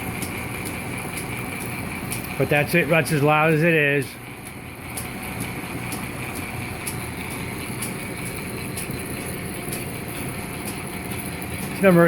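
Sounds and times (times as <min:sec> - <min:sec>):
drill press running: 0:00.0 - 0:12.0.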